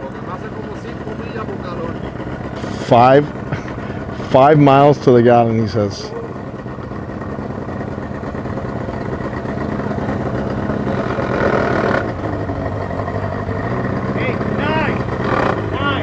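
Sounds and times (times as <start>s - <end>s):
outboard boat motors idling: 0.0s - 16.0s.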